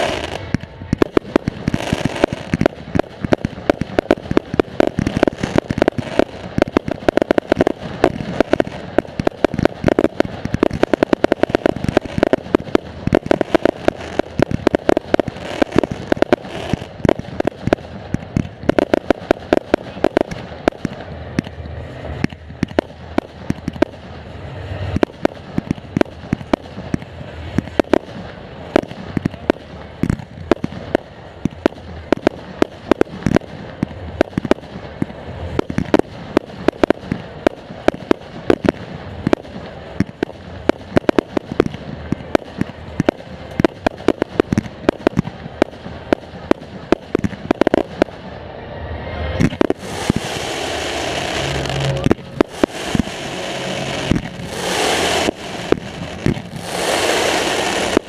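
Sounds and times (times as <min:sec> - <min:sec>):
fireworks launch thumps and bursts: 0:00.0 - 0:24.1, 0:24.9 - 0:48.2, 0:49.4 - 0:53.4, 0:54.0 - 0:58.0
fireworks crackle: 0:00.0 - 0:58.0.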